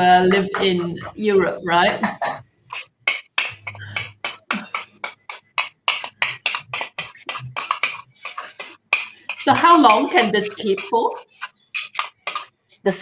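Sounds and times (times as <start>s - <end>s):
spoon scraping a bowl: 2.0s - 12.7s.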